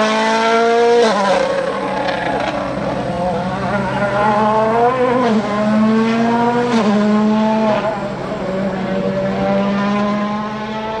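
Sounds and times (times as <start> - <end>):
rally car engine running hard: 0.0 - 11.0.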